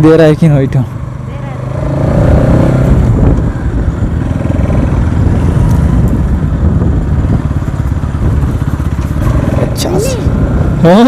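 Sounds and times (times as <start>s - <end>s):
motorcycle engine running: 0.0s - 11.0s
wind rumble on microphone: 2.0s - 11.0s.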